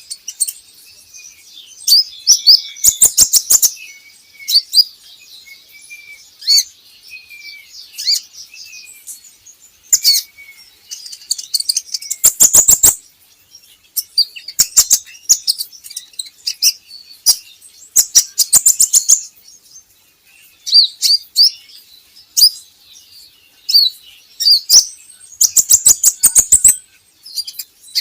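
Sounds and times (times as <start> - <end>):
sunbird chirping and twittering: 0.0 - 28.0.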